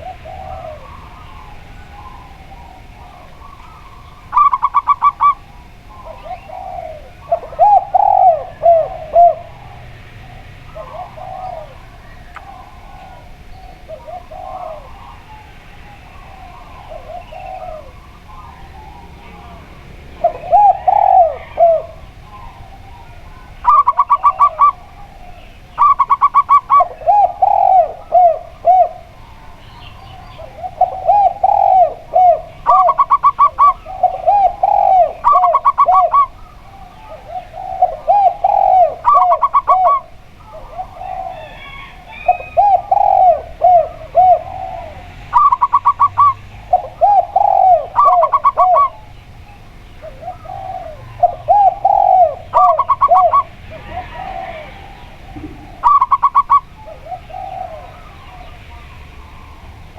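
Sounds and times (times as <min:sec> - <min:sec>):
dove low rounded cooing: 0:00.0 - 0:59.9
dove trilling coo: 0:00.0 - 0:59.9.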